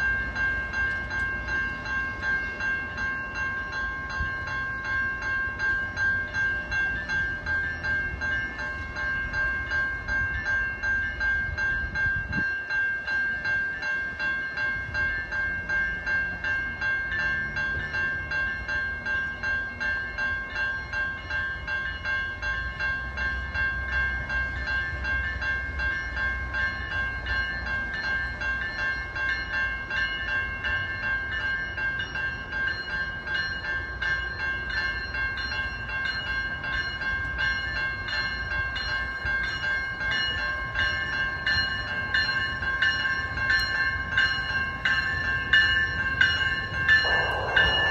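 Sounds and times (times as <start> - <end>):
train bell ringing: 0.0 - 47.9
train rumble: 0.0 - 47.9.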